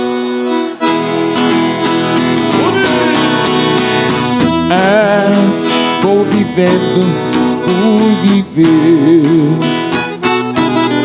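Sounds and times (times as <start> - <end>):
acoustic guitar strumming: 0.0 - 11.0
band playing: 0.0 - 11.0.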